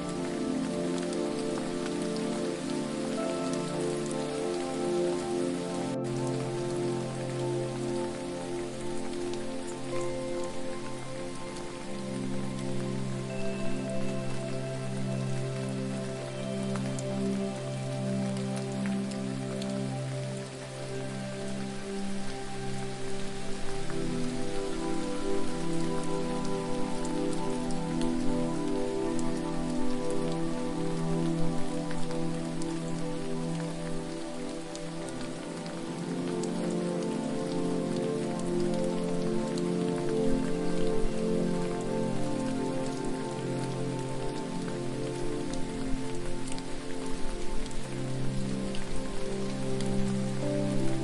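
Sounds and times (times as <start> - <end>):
falling water hiss: 0.0 - 51.0
soft sustained music chords: 0.0 - 51.0
water drips: 0.0 - 51.0.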